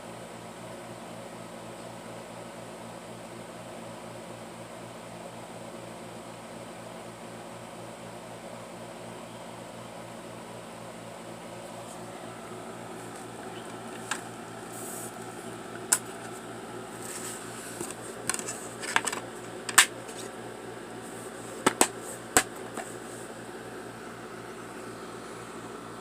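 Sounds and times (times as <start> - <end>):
mechanical hum: 0.0 - 26.0.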